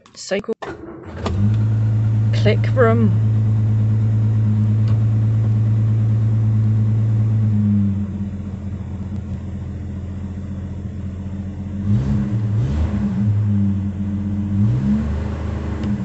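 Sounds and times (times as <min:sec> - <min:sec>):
car engine idling: 0:00.7 - 0:16.0.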